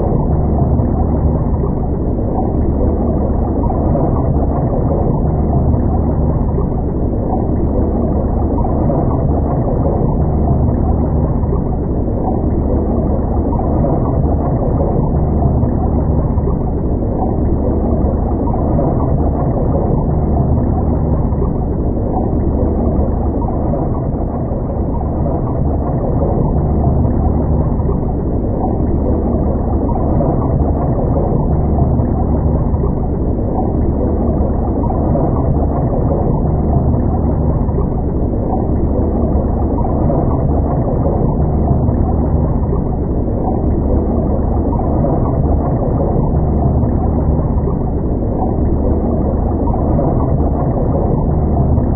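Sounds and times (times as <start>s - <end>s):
boat engine rumble: 0.0s - 51.9s.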